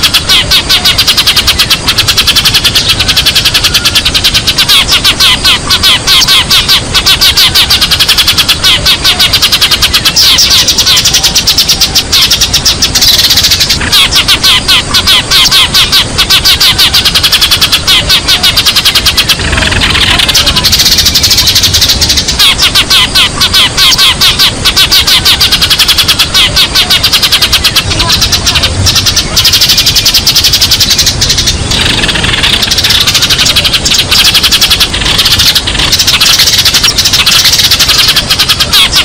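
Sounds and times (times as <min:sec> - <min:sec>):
sparrows chirping: 0:00.0 - 0:39.0.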